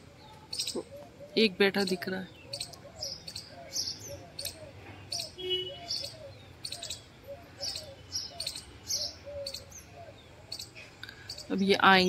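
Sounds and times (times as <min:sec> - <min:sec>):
sparrow chirping: 0:00.0 - 0:12.0.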